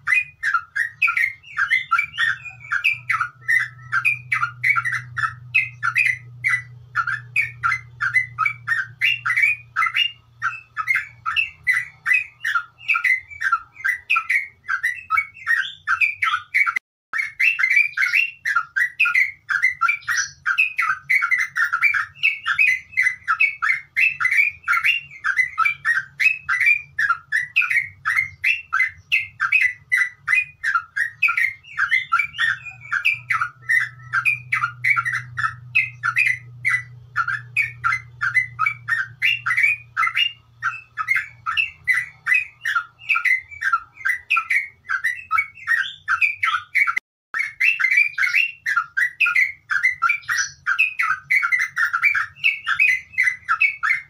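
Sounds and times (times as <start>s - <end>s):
bulbul singing chattering song: 0.0s - 54.0s.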